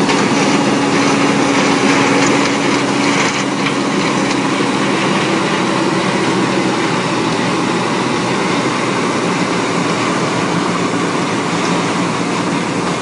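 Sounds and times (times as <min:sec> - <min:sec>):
combine harvester machinery drone: 0:00.0 - 0:13.0
low engine hum: 0:00.0 - 0:13.0.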